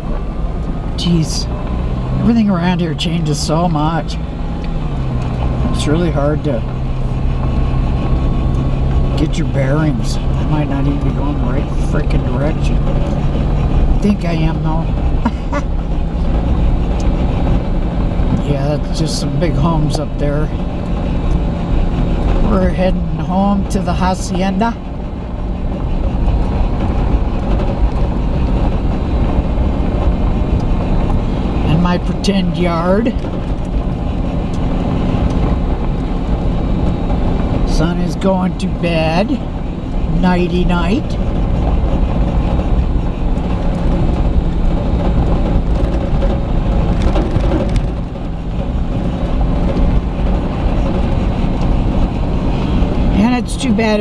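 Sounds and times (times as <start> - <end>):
road and engine rumble in cabin: 0.0 - 54.0.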